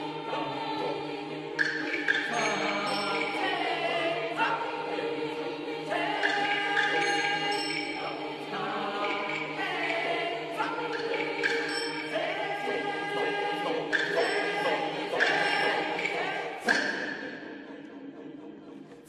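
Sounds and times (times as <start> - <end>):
mixed chorus singing chords: 0.0 - 19.0.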